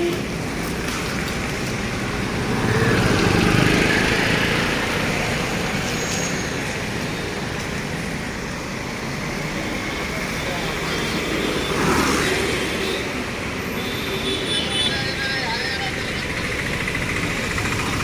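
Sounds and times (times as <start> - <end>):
slow-moving traffic: 0.0 - 18.0.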